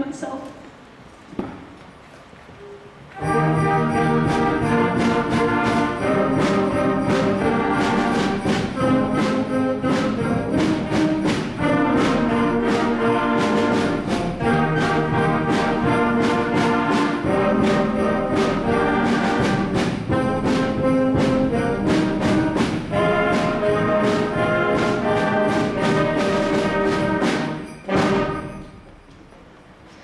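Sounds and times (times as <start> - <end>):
regular drum beat: 3.2 - 28.7
concert band playing: 3.2 - 28.9.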